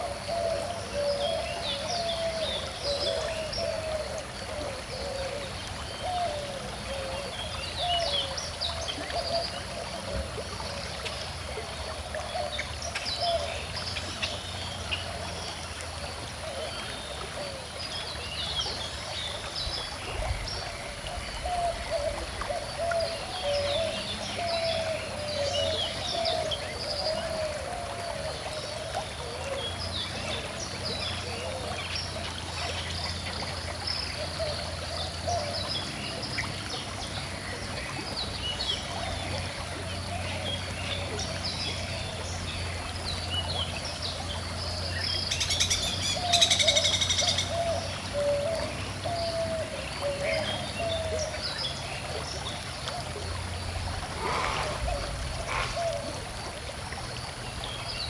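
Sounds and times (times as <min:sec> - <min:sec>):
river flowing and trickling: 0:00.0 - 0:58.0.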